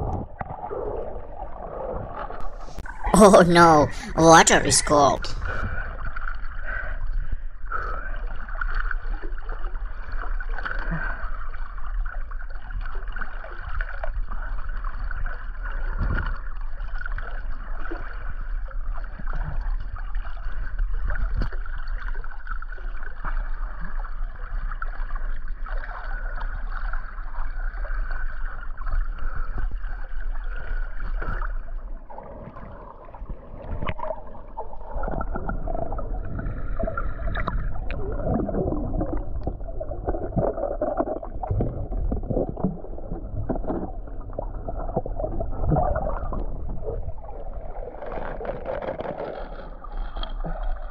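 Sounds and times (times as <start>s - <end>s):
pool water sloshing and gurgling: 0.0s - 50.9s.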